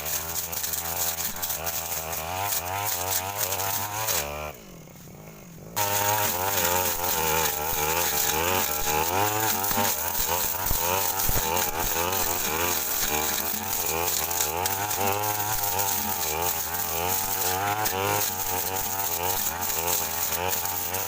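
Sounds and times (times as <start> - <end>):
brush cutter engine at high revs: 0.0 - 21.0.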